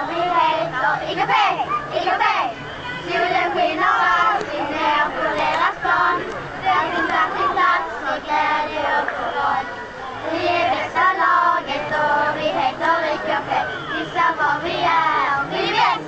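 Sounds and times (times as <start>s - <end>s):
girls singing together: 0.0s - 16.0s.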